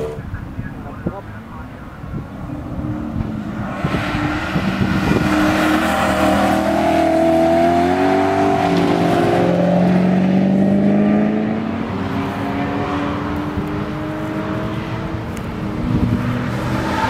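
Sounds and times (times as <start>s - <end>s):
car engine accelerating hard: 2.1s - 17.0s.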